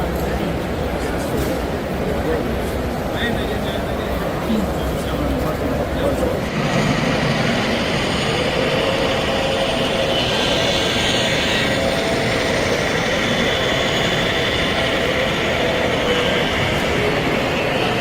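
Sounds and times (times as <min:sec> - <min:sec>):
busy hall roar: 0:00.0 - 0:18.0
indistinct voices: 0:03.2 - 0:18.0.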